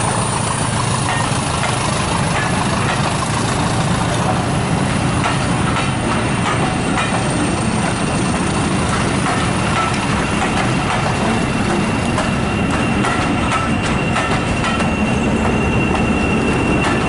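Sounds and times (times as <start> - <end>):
high wheel squeal: 0.0 - 17.0
train wheels rumbling on rail: 0.0 - 17.0
wheels clicking over rail joints: 0.0 - 17.0.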